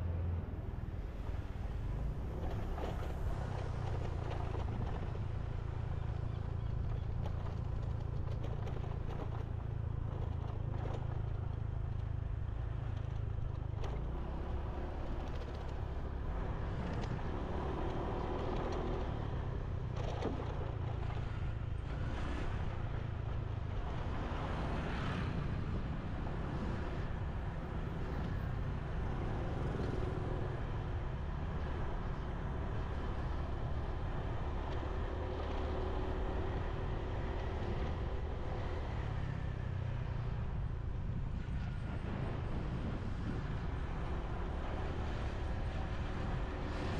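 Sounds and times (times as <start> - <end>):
motorbike engine and road noise: 0.0 - 46.9
surrounding traffic: 0.0 - 46.9.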